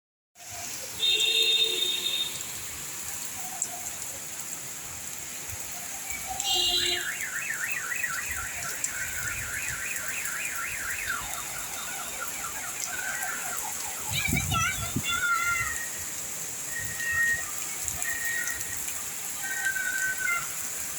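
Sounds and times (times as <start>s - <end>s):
rain hiss: 0.4s - 20.9s.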